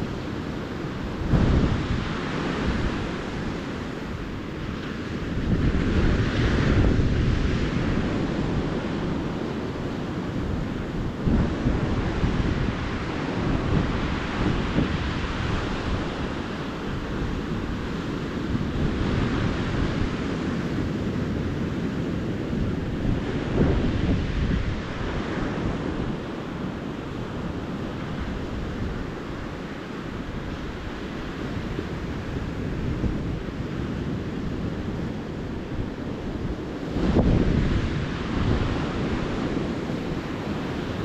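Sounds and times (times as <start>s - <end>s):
ocean surf washing onto beach: 0.0s - 41.0s
wind rumbling on microphone: 0.0s - 41.0s.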